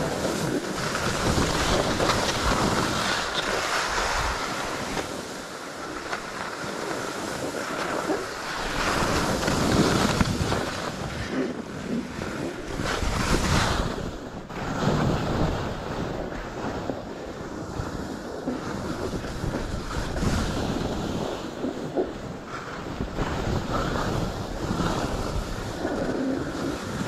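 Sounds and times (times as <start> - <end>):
skis scraping over snow: 0.0 - 27.0
wind noise on microphone: 0.0 - 27.0.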